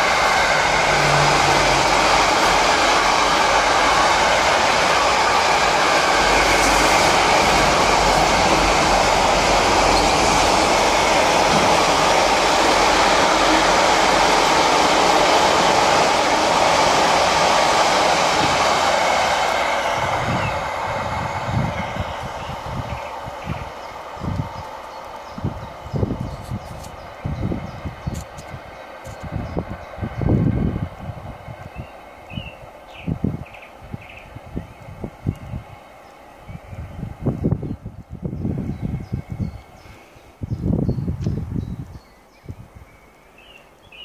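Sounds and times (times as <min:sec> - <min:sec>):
freight train wagons rolling past: 0:00.0 - 0:41.2.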